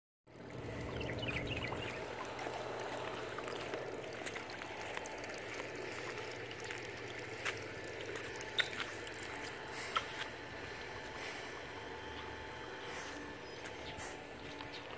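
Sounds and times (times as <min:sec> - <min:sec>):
water rushing and trickling: 0:00.3 - 0:14.9.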